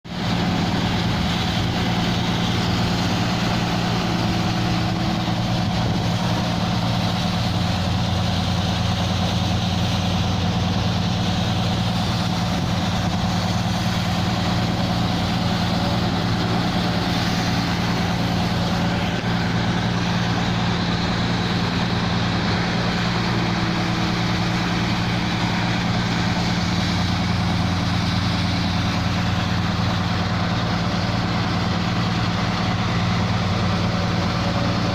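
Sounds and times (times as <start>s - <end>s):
engine humming steadily: 0.0s - 34.9s.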